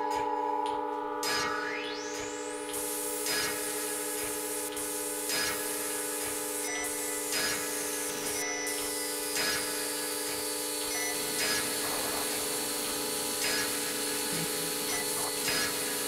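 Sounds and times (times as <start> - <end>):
hum of held tones: 0.0 - 16.0.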